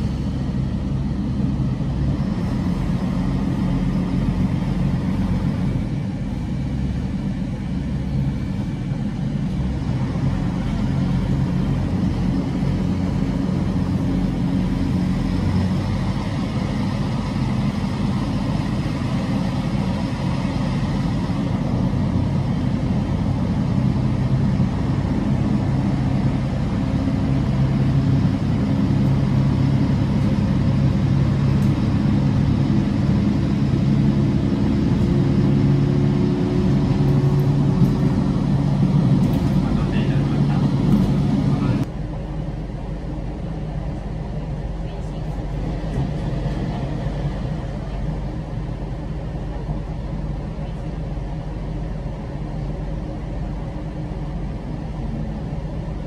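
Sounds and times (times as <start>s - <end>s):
rising tone of train: 0.0s - 56.0s
train rumbling: 0.0s - 56.0s.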